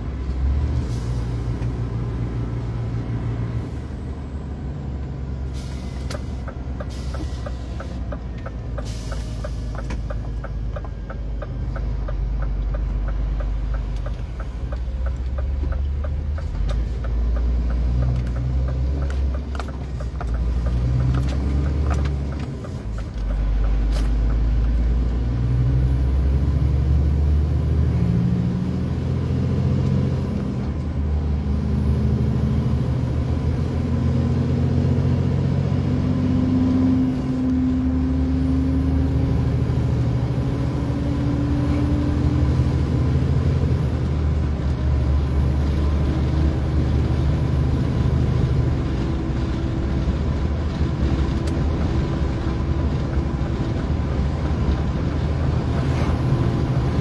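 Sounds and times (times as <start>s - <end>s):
lorry diesel engine under load: 0.0s - 57.0s.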